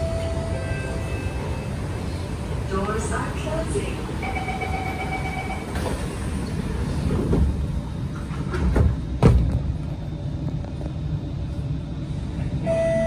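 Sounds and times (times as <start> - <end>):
train doors shutting: 0.0 - 10.9, 12.2 - 13.0
train rumbling: 0.0 - 13.0.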